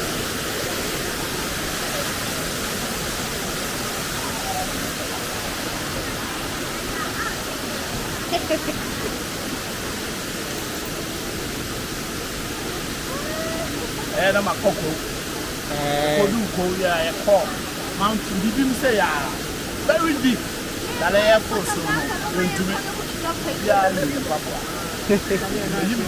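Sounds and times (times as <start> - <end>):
faint voices: 0.0 - 26.0
waterfall rushing: 0.0 - 26.0.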